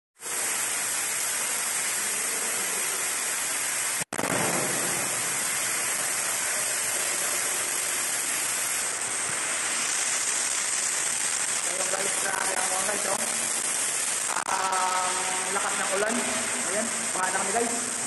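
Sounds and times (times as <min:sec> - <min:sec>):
rainwater pouring down steps: 0:00.2 - 0:18.0.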